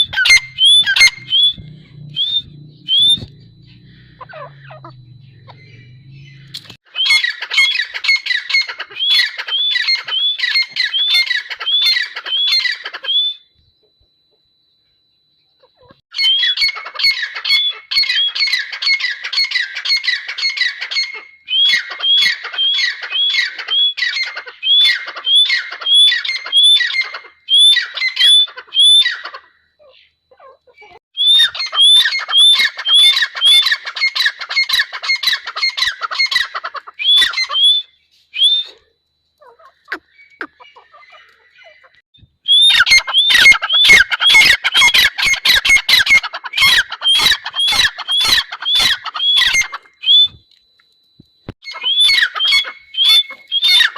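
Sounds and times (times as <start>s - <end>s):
bird shrill repeated calls: 0.0s - 13.5s, 15.6s - 50.4s, 51.6s - 53.9s.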